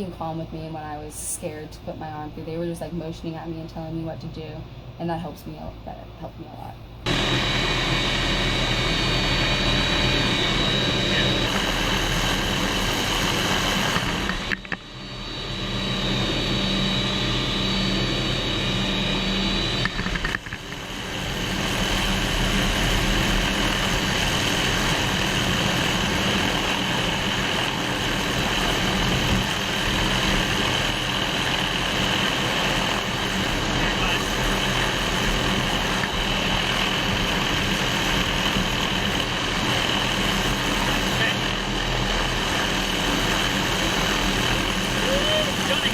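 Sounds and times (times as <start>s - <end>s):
helicopter engine and rotor drone: 7.0s - 45.9s.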